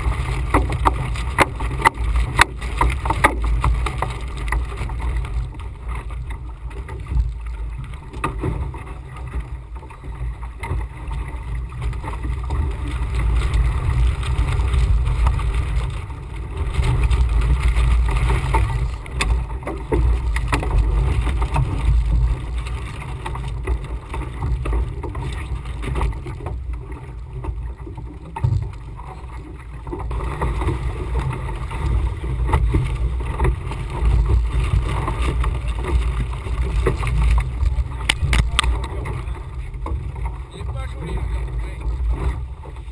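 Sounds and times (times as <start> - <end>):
water rushing along a hull: 0.0 - 42.9
wind rumbling over microphone: 0.0 - 42.9.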